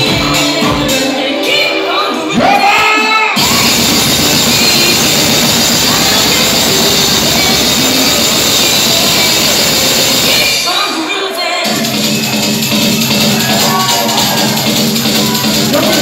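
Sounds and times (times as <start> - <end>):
loud live dance music: 0.0 - 16.0.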